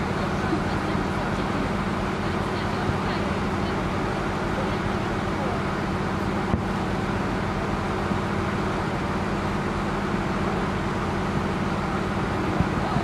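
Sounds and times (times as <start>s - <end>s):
ship engine drone: 0.0s - 13.0s.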